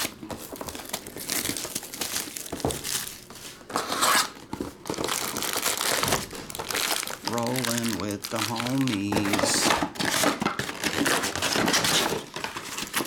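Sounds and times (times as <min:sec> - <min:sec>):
plastic shrink wrap crinkling: 0:00.0 - 0:13.0.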